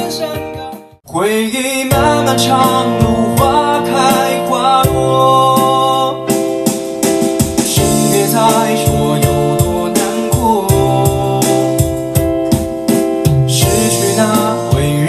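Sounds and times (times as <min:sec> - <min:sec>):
person singing melody: 0:00.0 - 0:15.0
pop ballad on electric keyboard: 0:00.0 - 0:15.0.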